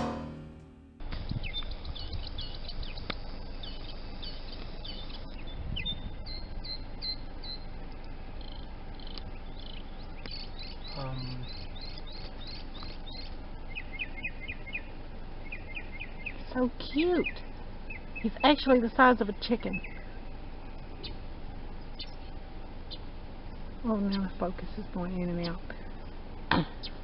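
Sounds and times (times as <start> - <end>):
low outdoor rumble: 0.0 - 27.0
small songbirds chirping: 1.4 - 27.0.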